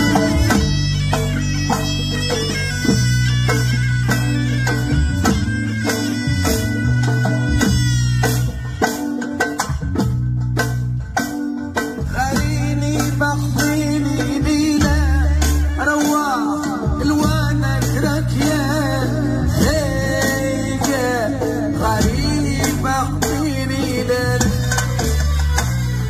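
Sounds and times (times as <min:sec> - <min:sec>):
low held bass notes: 0:00.0 - 0:08.9, 0:09.6 - 0:16.1, 0:16.8 - 0:26.0
drums: 0:00.0 - 0:26.0
shawm playing fast melody: 0:00.0 - 0:26.0.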